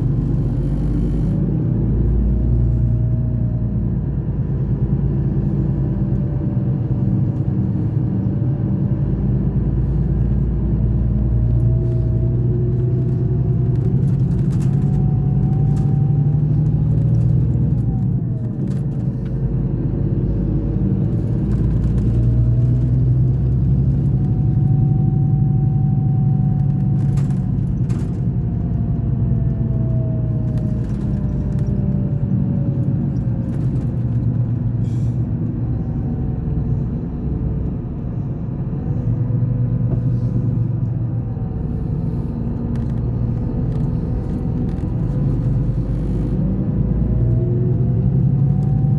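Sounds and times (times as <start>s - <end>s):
coach engine droning: 0.0s - 48.9s.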